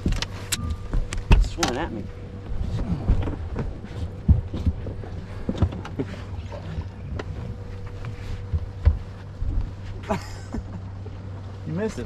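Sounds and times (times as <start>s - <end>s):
low boat hum: 0.0s - 12.0s.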